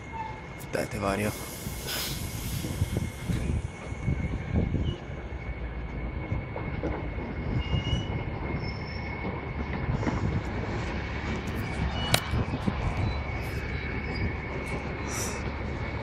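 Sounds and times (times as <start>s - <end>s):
diesel truck rumbling: 0.0s - 16.0s.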